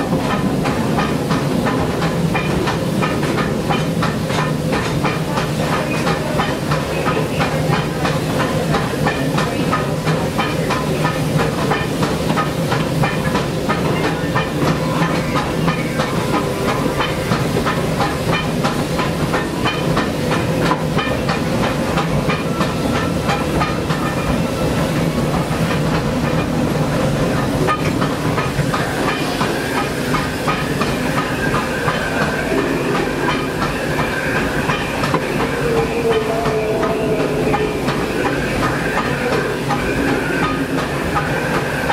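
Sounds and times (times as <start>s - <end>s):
steam hissing: 0.0s - 41.9s
train wheels clicking and rattling: 0.0s - 41.9s.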